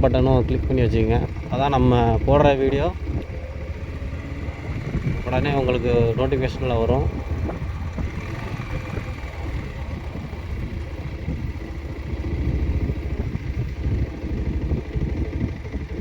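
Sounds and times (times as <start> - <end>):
motorcycle engine low rumble: 0.0 - 16.0.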